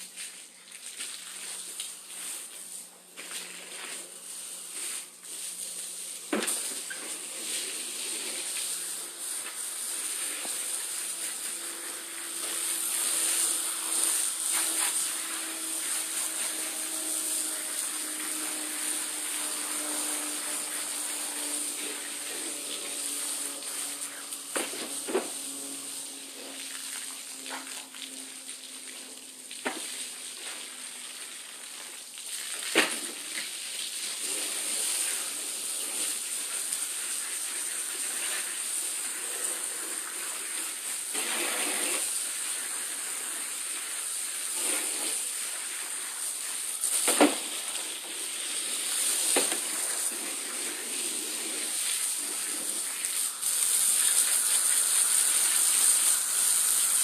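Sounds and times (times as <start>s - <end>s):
hose spraying water on mat: 0.0s - 57.0s.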